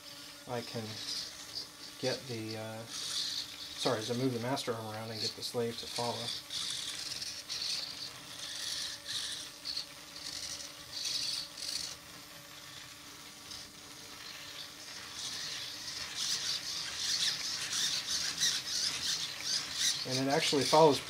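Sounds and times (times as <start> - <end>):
servos buzzing and whining: 0.0 - 21.0.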